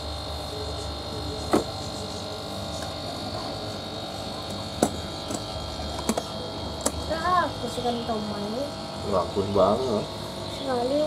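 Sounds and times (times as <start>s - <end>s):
aquarium pump humming: 0.0s - 11.0s.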